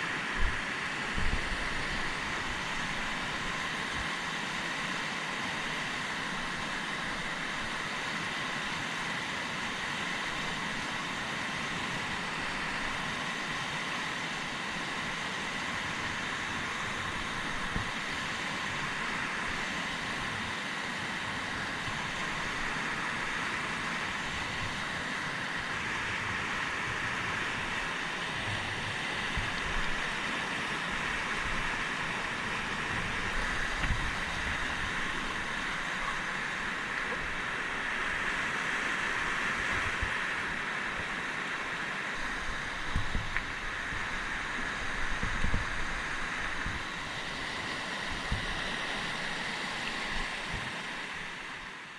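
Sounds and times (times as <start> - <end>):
fast river rushing: 0.0 - 51.9.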